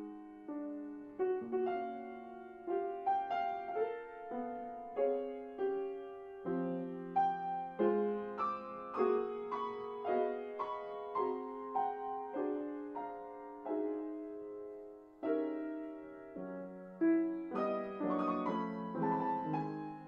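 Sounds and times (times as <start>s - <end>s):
piano chords: 0.0s - 20.0s.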